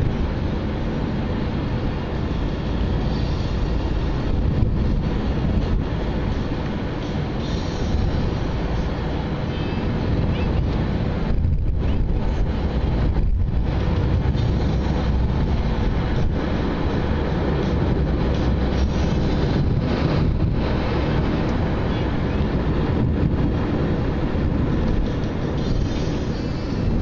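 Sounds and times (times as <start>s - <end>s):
tyre and engine rumble: 0.0s - 27.0s
wind noise: 0.0s - 27.0s.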